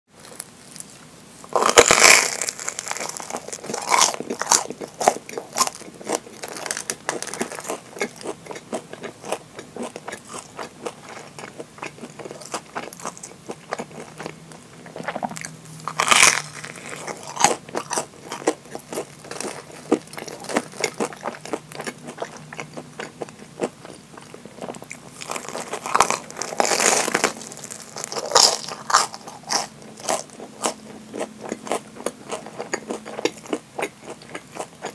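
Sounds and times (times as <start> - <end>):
crackly chewing: 0.2 - 34.9
crunching bites of fried crust: 0.2 - 34.9.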